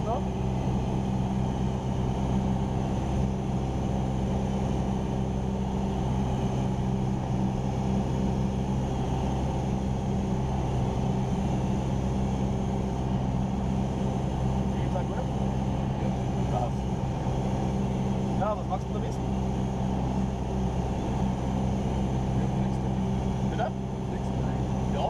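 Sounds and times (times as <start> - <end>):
airplane engine droning in cockpit: 0.0 - 25.0.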